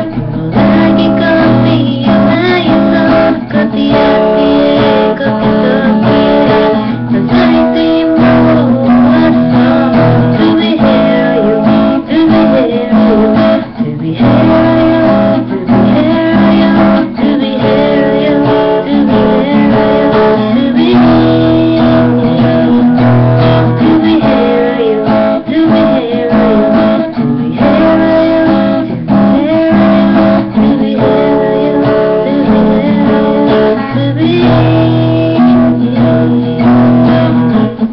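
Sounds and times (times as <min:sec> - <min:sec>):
acoustic guitar strumming chords: 0:00.0 - 0:37.9.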